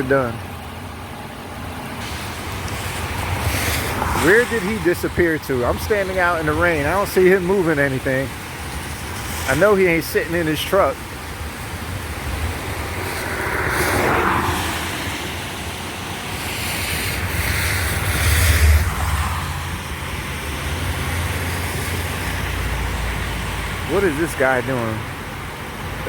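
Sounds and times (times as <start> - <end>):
wind and rain on microphone: 0.2 - 26.0.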